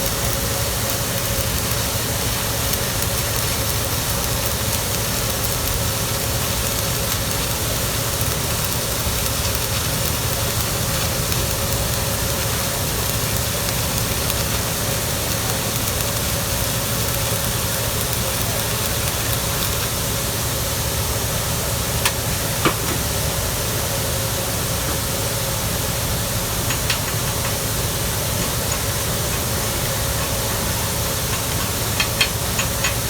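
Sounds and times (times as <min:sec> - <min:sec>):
welding arc crackling hiss: 0:00.0 - 0:33.0.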